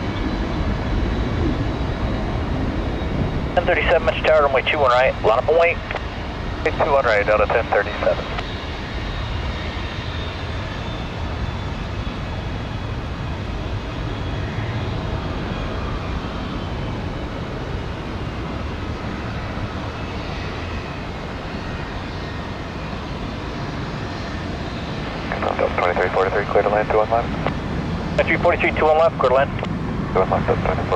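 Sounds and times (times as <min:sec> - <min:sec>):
faint high whine: 0:00.0 - 0:30.9
jet engines roaring: 0:00.0 - 0:30.9.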